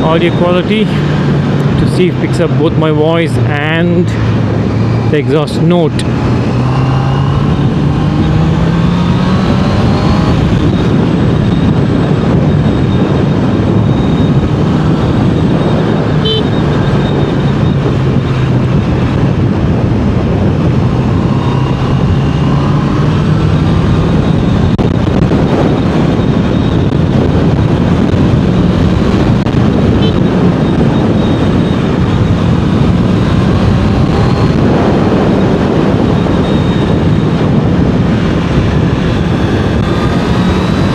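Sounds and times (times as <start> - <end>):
motorcycle engine and exhaust: 0.0 - 40.9
wind and road noise: 0.0 - 40.9.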